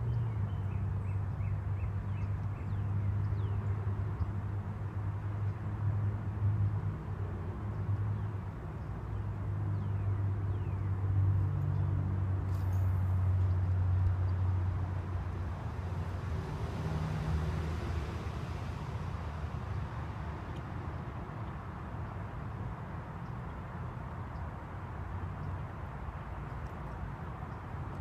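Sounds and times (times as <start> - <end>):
distant vehicle engine hum: 0.0 - 28.0.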